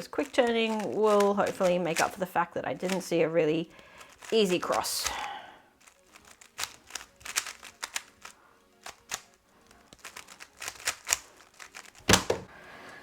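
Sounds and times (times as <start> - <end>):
puzzle cube plastic clicks: 0.0 - 2.2, 2.8 - 12.4.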